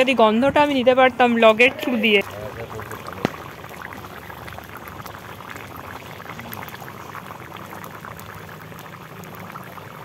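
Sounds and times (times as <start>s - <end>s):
curry bubbling at a boil: 0.0s - 10.0s.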